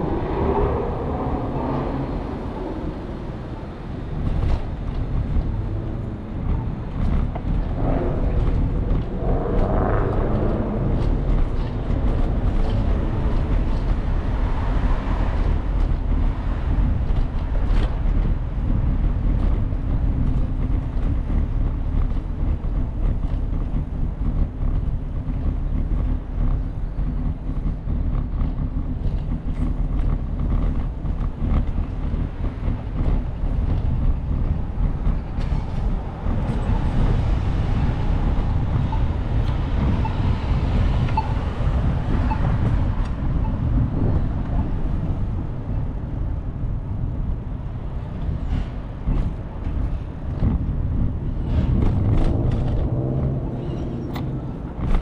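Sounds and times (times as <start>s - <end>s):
road noise: 0.0s - 55.0s
wind rumble on microphone: 0.0s - 55.0s.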